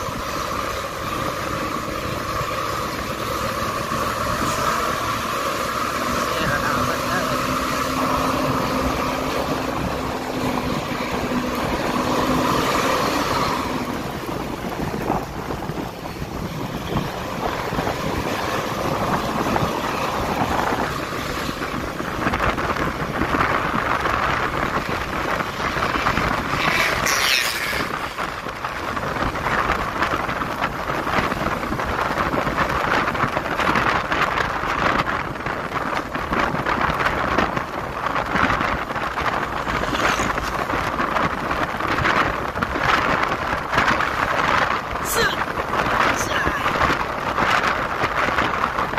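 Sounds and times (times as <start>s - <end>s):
engine and road noise: 0.0s - 48.9s
wind rushing over microphone: 0.0s - 48.9s.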